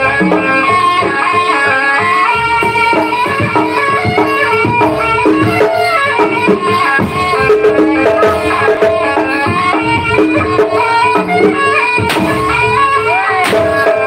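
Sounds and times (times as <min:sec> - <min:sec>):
drums beating steady rhythm: 0:00.0 - 0:14.0
pitched melody notes: 0:00.0 - 0:14.0.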